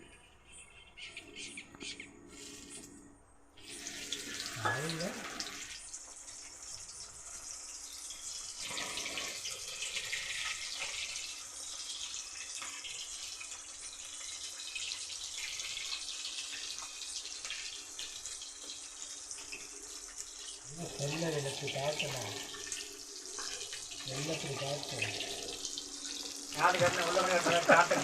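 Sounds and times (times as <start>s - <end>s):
running water splashing: 3.6s - 28.0s.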